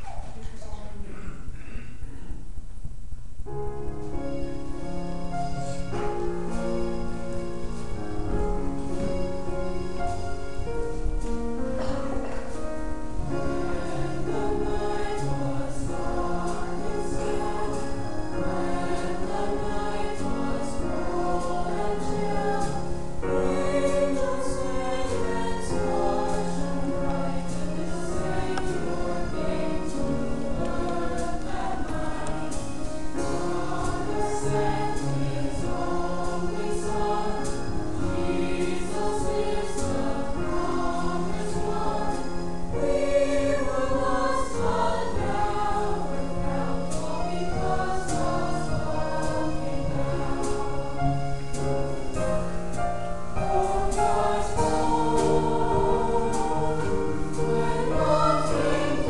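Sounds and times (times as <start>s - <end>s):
choir singing held notes: 3.4s - 59.0s.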